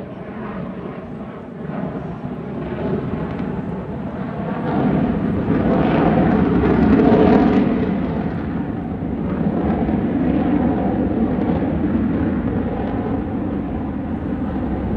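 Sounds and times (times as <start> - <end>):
jet flying overhead: 0.0 - 14.9.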